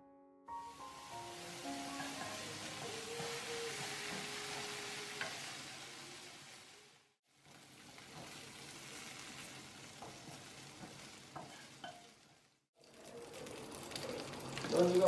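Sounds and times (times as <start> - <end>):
bacon sizzling in a frying pan: 0.7 - 15.0.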